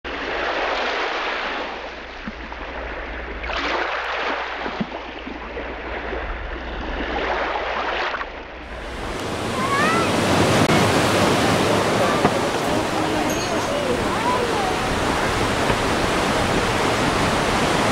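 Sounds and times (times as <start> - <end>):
sea waves washing: 0.1 - 17.9.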